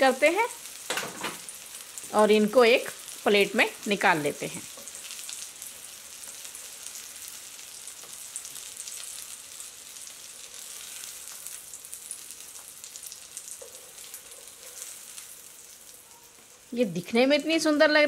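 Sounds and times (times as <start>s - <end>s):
oil sizzling and crackling: 0.0s - 18.0s.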